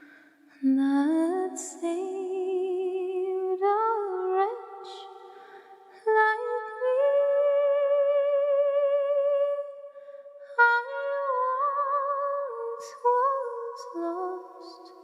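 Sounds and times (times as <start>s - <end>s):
woman singing wordlessly: 0.6s - 5.3s, 5.9s - 9.8s, 10.6s - 15.0s.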